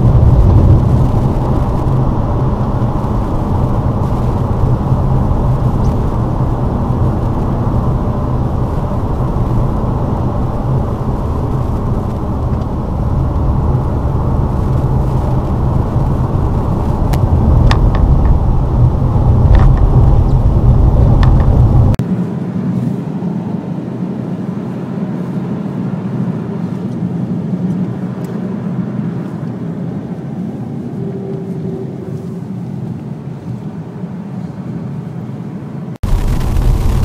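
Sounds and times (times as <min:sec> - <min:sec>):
engine and tyres rumbling: 0:00.0 - 0:37.0.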